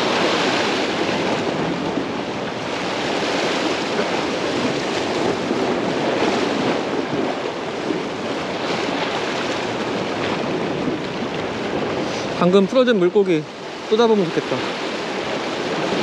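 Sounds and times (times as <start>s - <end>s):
waves washing against shore: 0.0s - 16.0s.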